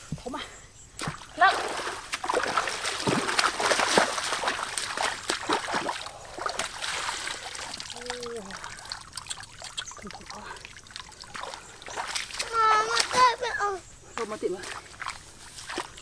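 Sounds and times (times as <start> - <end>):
water splashing and trickling: 0.3 - 16.0.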